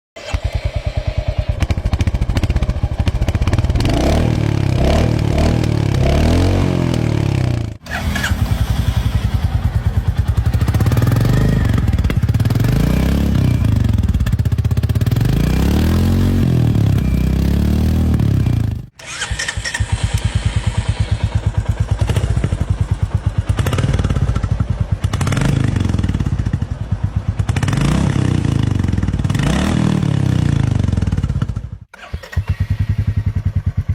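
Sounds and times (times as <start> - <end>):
motorcycle engine revving: 0.2 - 33.9.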